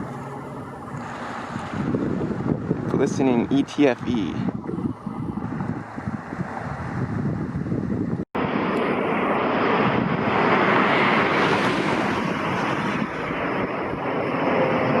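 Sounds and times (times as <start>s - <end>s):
airplane passing overhead: 0.0s - 15.0s.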